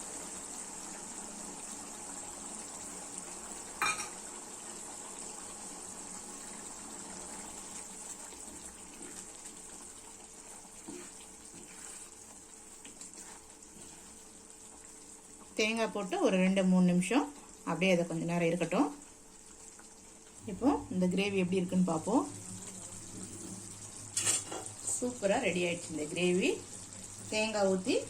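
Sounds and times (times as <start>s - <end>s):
gravy simmering in a pan: 0.0s - 28.0s.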